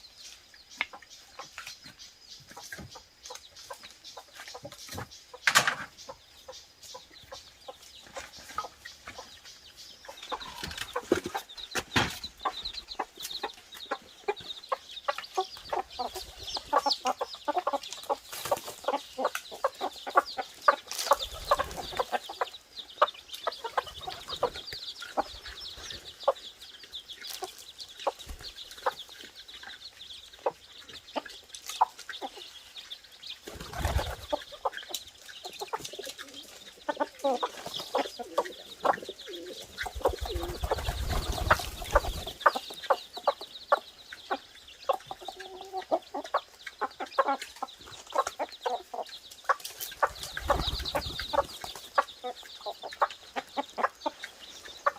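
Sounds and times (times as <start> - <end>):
chickens clucking: 0.0 - 54.9
high chirping: 0.0 - 54.9.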